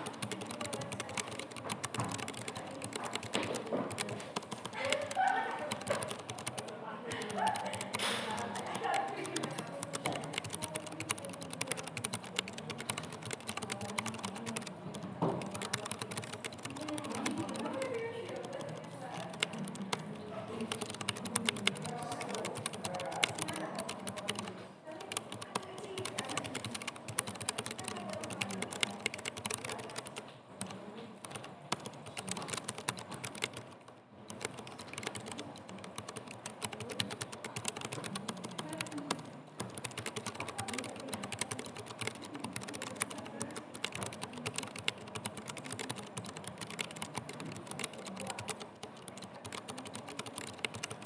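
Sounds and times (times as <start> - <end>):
mechanical keyboard typing: 0.0 - 51.0.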